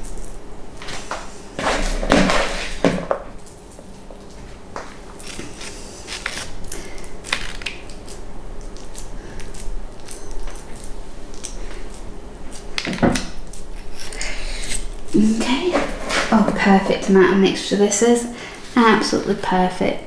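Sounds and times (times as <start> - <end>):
soft squishing: 0.0 - 17.6.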